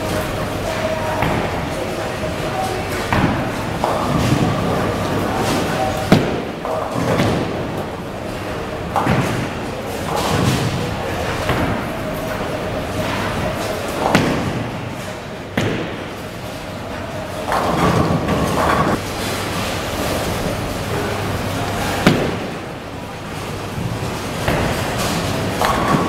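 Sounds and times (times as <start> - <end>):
rumble of bowling balls rolling: 0.0 - 26.0.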